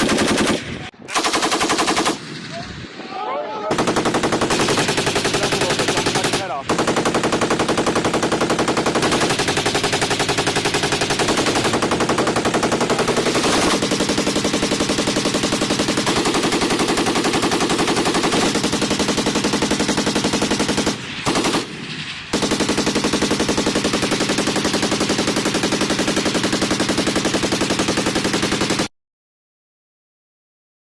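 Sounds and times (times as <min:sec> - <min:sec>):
machine gun automatic fire: 0:00.0 - 0:02.4, 0:03.7 - 0:28.9.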